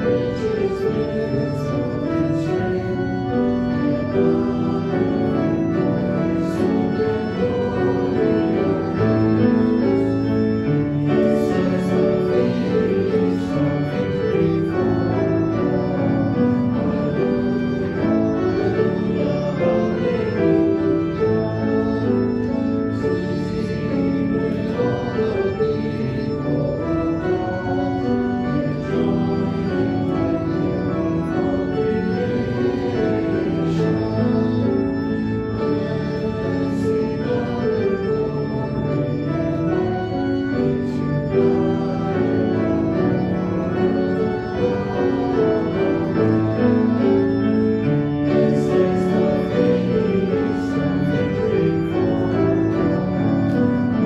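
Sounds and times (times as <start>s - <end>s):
organ playing slow chords: 0.0s - 54.0s.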